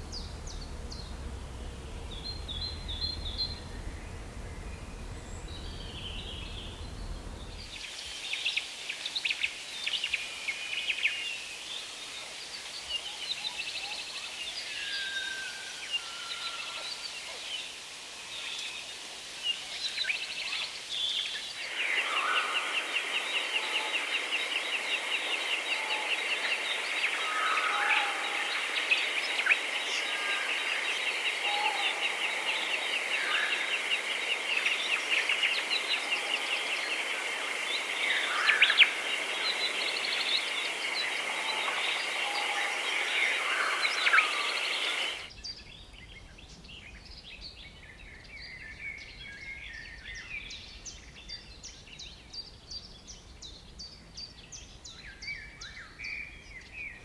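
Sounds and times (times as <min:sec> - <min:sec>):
quieter birds chirping: 0:00.0 - 0:57.0.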